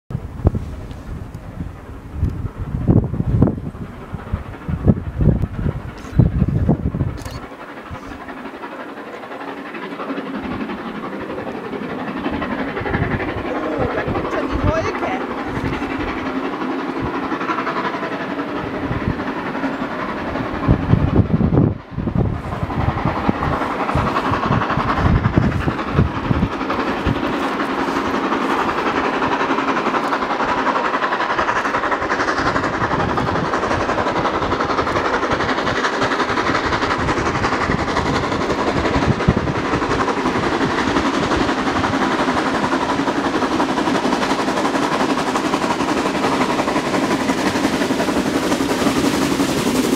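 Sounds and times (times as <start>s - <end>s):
heavy low rumbles: 0.1s - 49.9s
steam locomotive chuffing: 0.2s - 49.9s.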